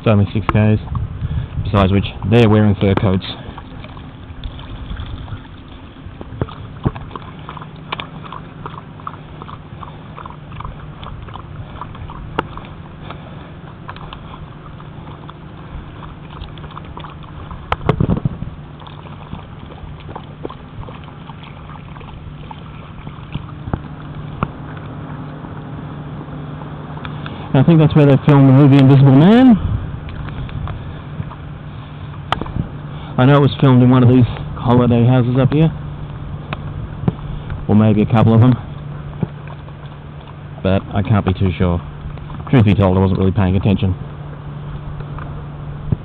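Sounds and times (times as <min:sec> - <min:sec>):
dog lapping water: 0:00.0 - 0:46.0
low hum: 0:00.0 - 0:46.0.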